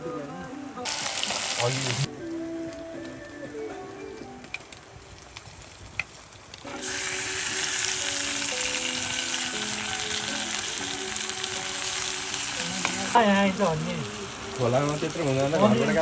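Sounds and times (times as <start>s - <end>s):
food sizzling in hot oil: 0.8s - 2.1s, 4.3s - 16.0s.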